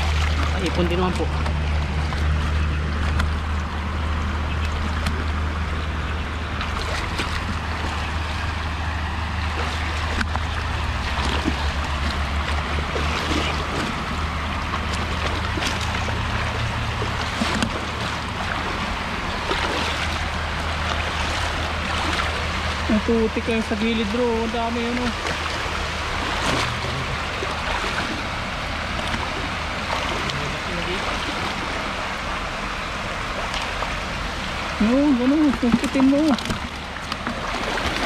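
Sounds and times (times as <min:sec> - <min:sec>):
low hum: 0:00.0 - 0:38.0
water sloshing and splashing: 0:00.0 - 0:38.0.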